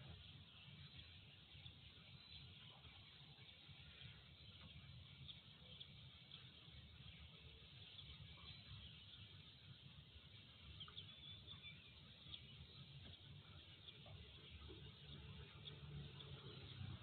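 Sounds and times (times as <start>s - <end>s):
faint high chirps: 0.0s - 17.0s.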